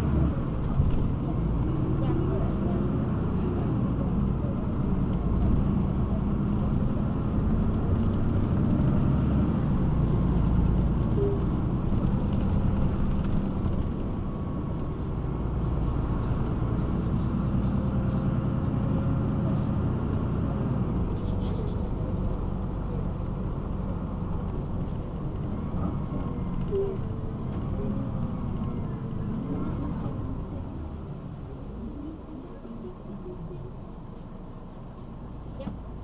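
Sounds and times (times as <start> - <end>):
bus engine humming: 0.0 - 36.0.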